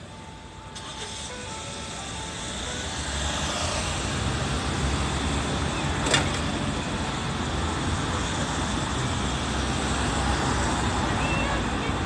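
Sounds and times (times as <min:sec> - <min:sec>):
road traffic rumbling: 0:00.0 - 0:12.0.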